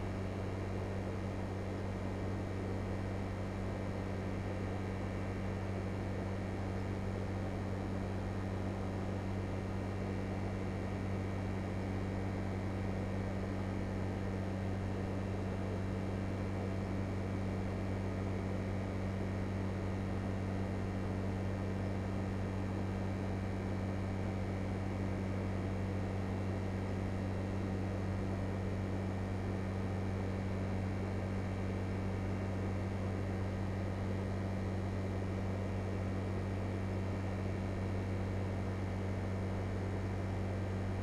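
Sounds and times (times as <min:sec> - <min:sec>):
air conditioning unit humming: 0:00.0 - 0:41.0.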